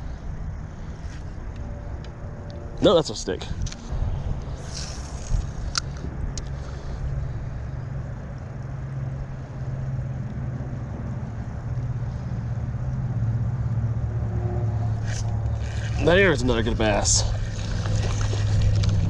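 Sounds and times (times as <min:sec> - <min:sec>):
highway traffic rumble overhead: 0:00.0 - 0:19.0.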